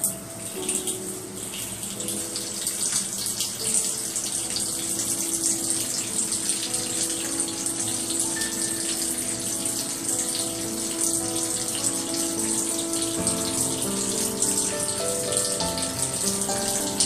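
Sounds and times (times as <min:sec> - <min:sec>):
shower water splashing: 0:00.0 - 0:17.0.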